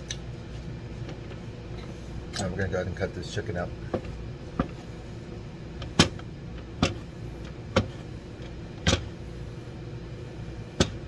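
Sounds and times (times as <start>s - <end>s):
microwave humming: 0.0s - 11.0s.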